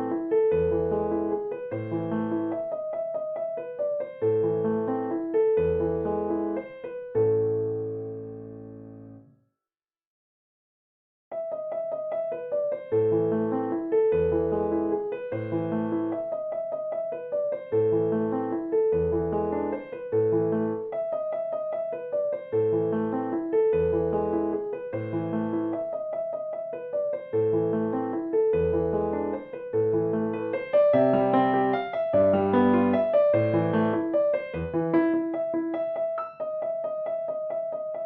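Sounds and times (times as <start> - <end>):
gentle piano music: 0.0 - 9.4, 11.3 - 38.0.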